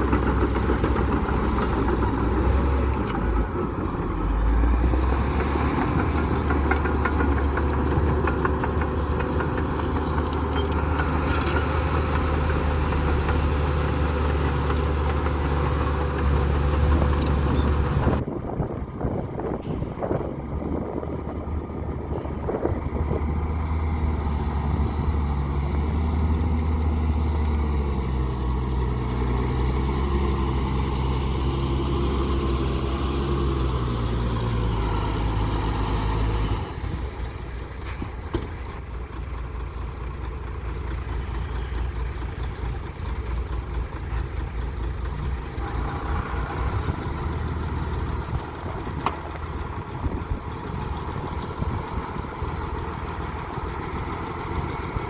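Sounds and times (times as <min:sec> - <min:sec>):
heavy diesel engine working: 0:00.0 - 0:55.0.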